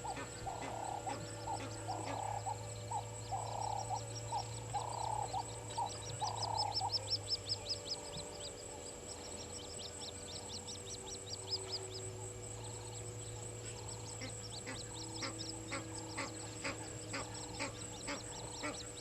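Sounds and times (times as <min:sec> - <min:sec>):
low hum: 0:00.0 - 0:19.0
lower rhythmic animal call: 0:00.0 - 0:19.0.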